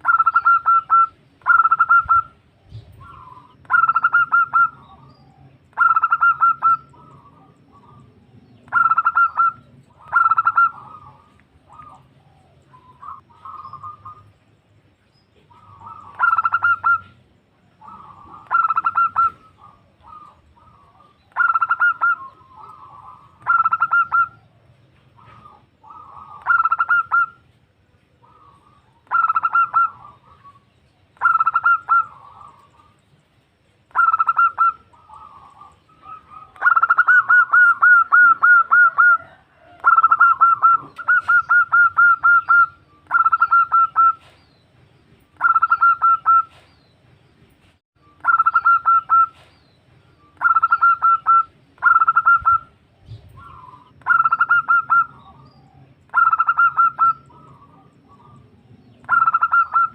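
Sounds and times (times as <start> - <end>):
dove cooing: 0.0 - 14.4, 15.4 - 27.5, 28.1 - 33.0, 33.9 - 44.4, 45.4 - 46.7, 48.2 - 49.6, 50.4 - 59.9.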